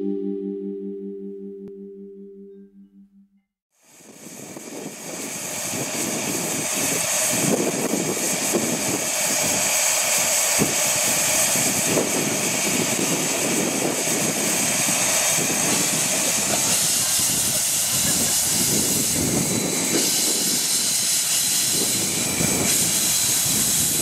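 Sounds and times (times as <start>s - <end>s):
steam hissing: 3.8s - 24.0s.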